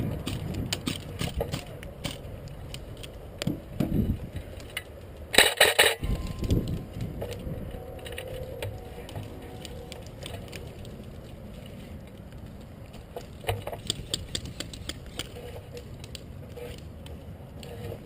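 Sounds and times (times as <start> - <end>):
clicks and knocks of handled gear: 0.0 - 18.0.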